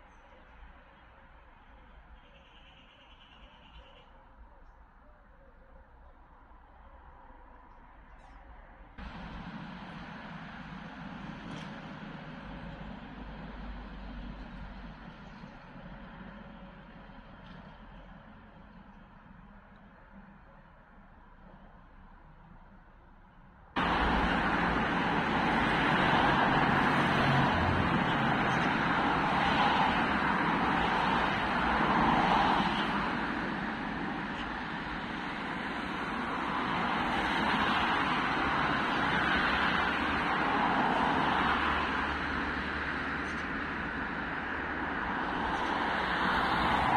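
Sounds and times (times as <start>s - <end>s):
vehicle noise with engine hum: 0.0s - 46.9s.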